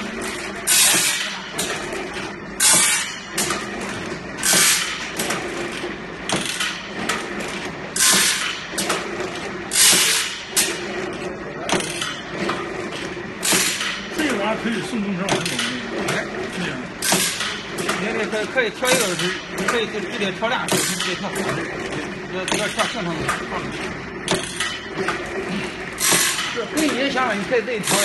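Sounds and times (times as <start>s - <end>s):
feed mechanism clicking: 0.0s - 28.0s
steady motor hum: 0.0s - 28.0s.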